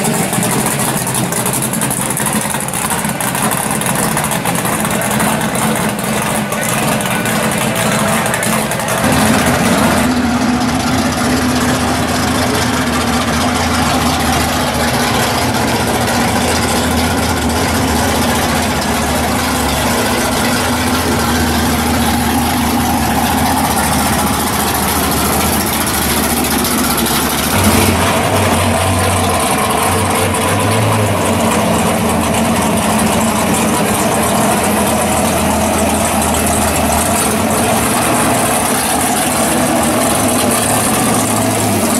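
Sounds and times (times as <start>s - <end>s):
v eight engines idling: 0.0s - 41.9s.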